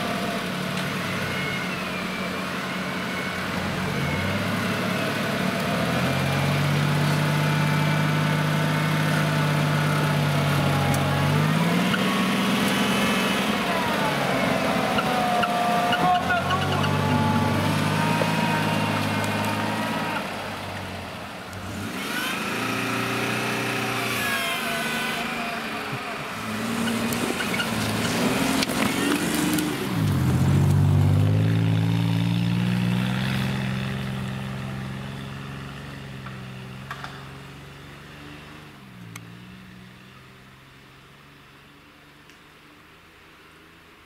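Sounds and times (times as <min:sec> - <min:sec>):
truck engine revving: 0:00.0 - 0:38.7.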